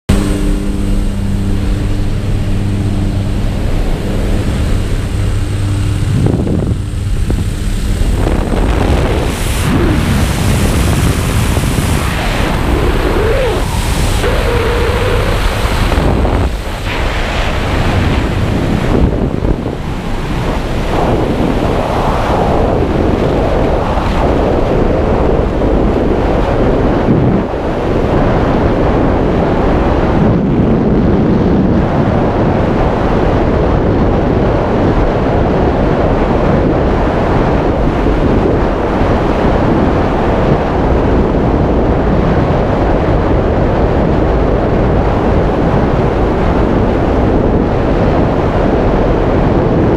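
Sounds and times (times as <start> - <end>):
wind rushing over microphone: 0.1 - 49.9.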